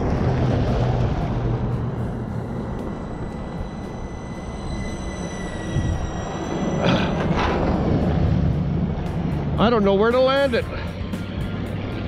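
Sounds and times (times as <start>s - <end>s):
electric ducted fans whining: 0.0s - 12.0s
low rumble: 0.0s - 12.0s.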